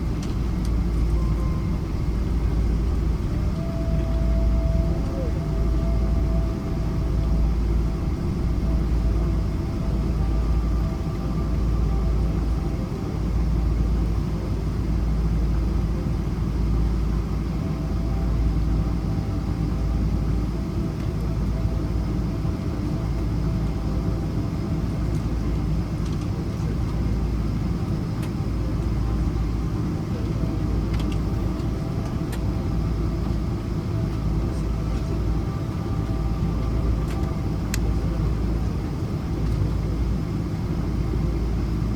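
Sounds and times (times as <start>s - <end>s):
faint steady hum: 0.0s - 41.9s
low rumble of tyres and engines: 0.0s - 41.9s.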